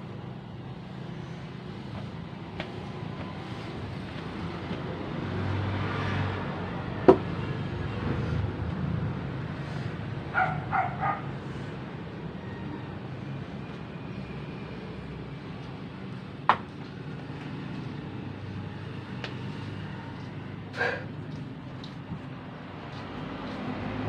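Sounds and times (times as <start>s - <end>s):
background traffic noise: 0.0s - 24.0s.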